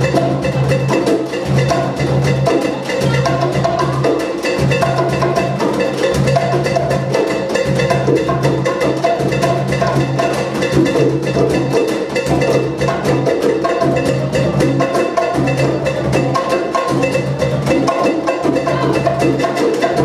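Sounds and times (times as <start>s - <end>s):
folk dance music: 0.0s - 20.0s
hand percussion: 0.0s - 20.0s.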